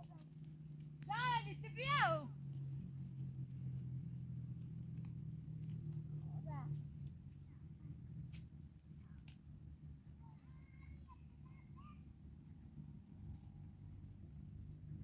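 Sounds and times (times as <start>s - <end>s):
insect chirping: 1.7s - 15.0s.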